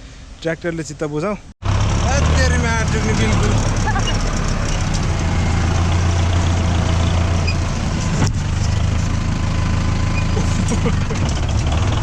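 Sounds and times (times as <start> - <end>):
tractor diesel engine idling: 1.6 - 12.0.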